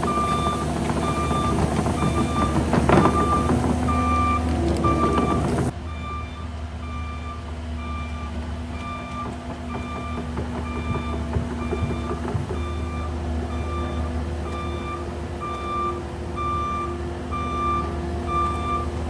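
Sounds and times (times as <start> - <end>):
backup alarm beeping: 0.0 - 19.0
diesel engine running: 0.0 - 19.0.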